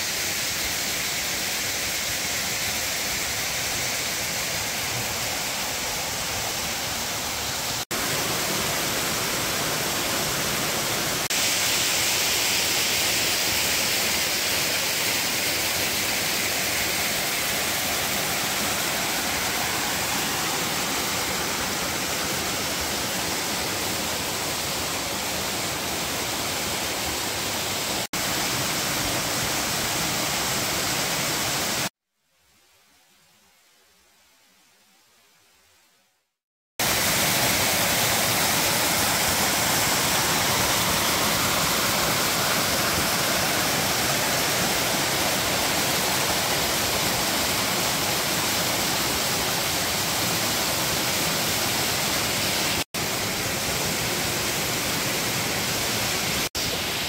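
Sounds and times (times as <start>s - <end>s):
waterfall rushing: 0.0s - 31.9s, 36.8s - 57.0s.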